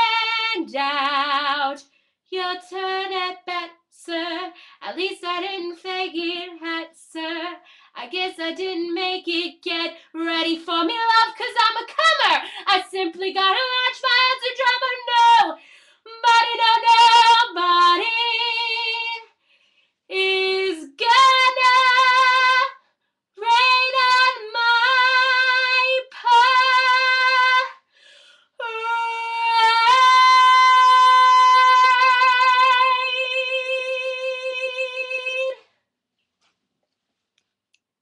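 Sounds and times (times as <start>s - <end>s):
girl singing a cappella: 0.0s - 19.3s, 20.1s - 22.8s, 23.4s - 27.8s, 28.6s - 35.6s.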